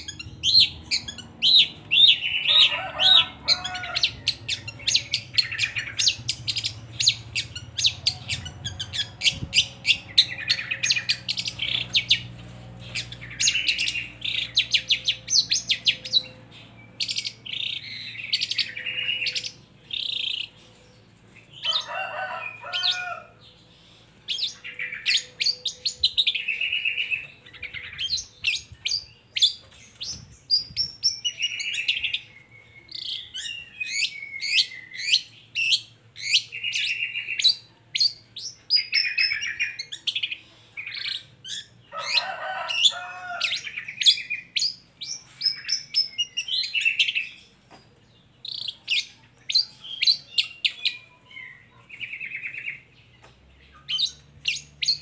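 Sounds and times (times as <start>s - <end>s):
harsh lower bird calls: 0.0s - 55.0s.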